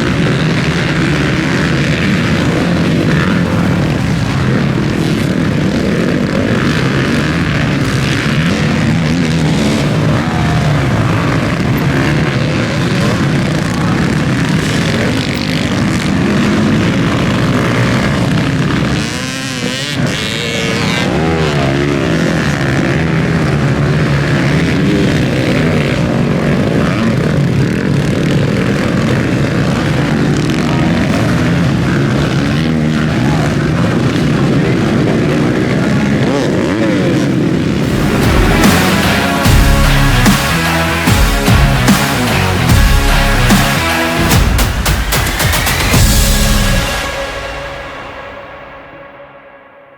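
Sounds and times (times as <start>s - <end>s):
motocross bike engines revving: 0.0s - 48.4s.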